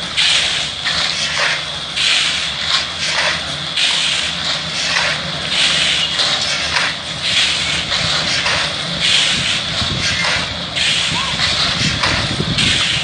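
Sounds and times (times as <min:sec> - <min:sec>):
gravel being shovelled: 0:00.2 - 0:13.0.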